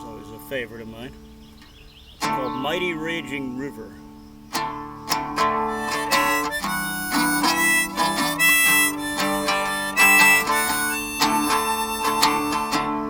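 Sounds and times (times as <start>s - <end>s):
harmonica melody: 0.0s - 13.0s
strummed acoustic guitar: 0.0s - 13.0s.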